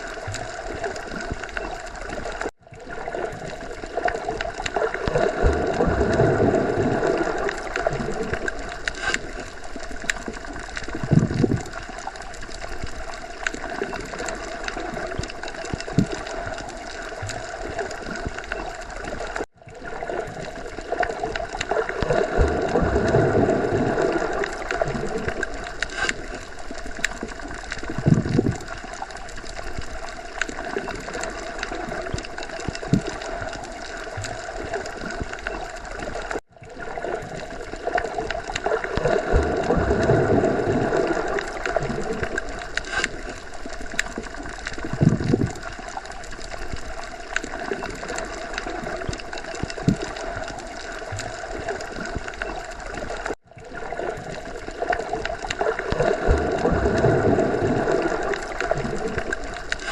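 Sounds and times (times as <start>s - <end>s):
underwater water wash: 0.0s - 59.9s.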